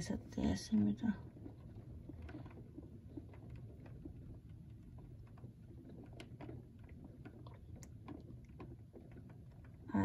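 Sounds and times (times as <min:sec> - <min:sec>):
low steady hum: 0:00.0 - 0:10.0
soft irregular ticks: 0:00.0 - 0:10.0.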